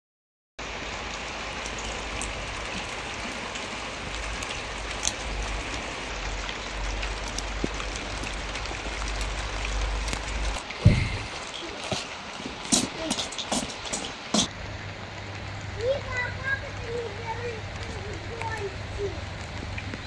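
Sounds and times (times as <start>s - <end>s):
rain falling on plants and paving: 0.6s - 20.0s.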